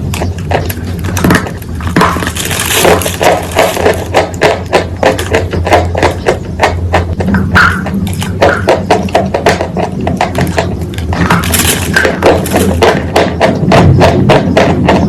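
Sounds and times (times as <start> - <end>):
low hum: 0.0 - 15.0
rapid repeated knocks: 0.0 - 15.0.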